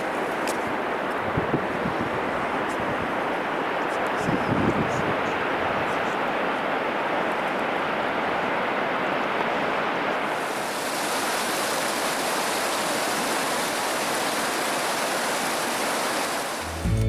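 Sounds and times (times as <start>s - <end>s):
waterfall roaring: 0.0s - 16.8s.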